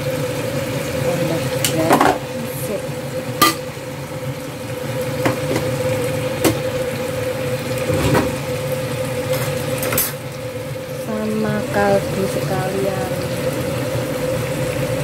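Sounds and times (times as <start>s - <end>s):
chicken cooking in a wok: 0.0s - 15.0s.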